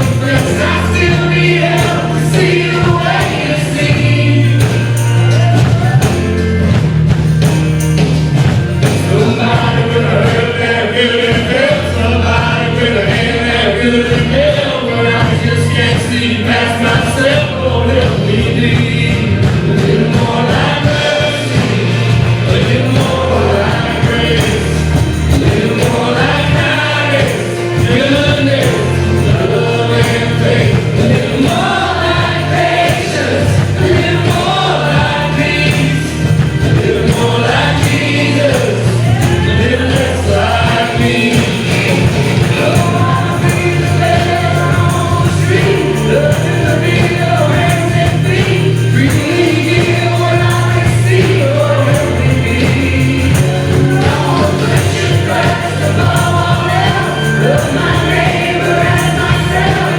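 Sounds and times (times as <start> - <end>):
choir singing: 0.0 - 6.9, 7.5 - 59.9
band playing: 0.0 - 59.9.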